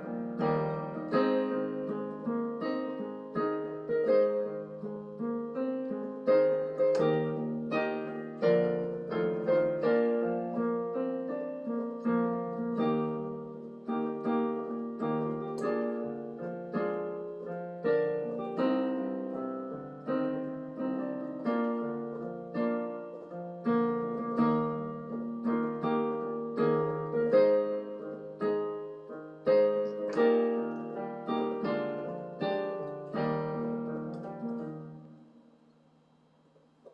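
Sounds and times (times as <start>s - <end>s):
piano playing hymn chords: 0.0s - 35.6s.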